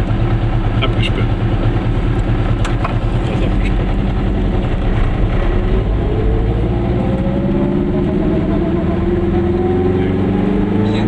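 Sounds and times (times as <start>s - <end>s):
low rumble: 0.0s - 11.0s
two-stroke car engine accelerating: 0.0s - 11.0s.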